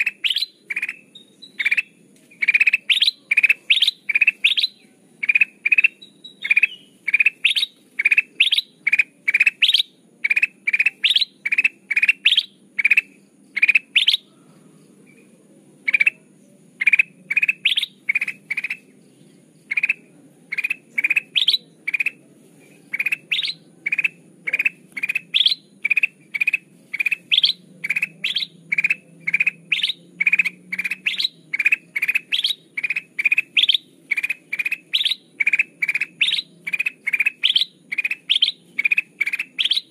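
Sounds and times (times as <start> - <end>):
bulbul chirping: 0.0 - 14.4, 15.1 - 18.9, 19.5 - 39.9.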